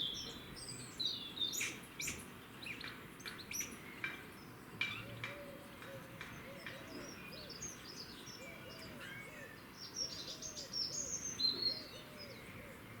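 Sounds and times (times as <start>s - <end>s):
songbirds chirping and whistling: 0.0s - 13.0s.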